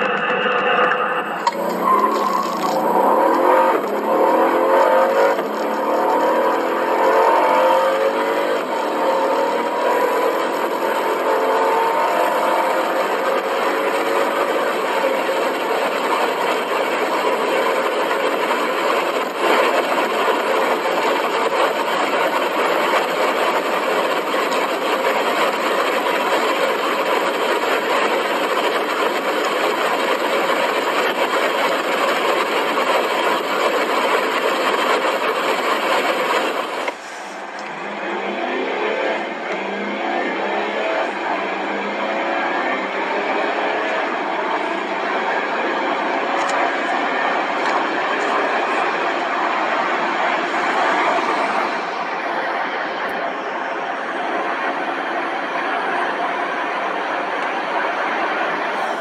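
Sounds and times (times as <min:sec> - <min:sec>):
car engine at full throttle: 0:00.0 - 0:59.0
diesel engine accelerating: 0:00.0 - 0:59.0.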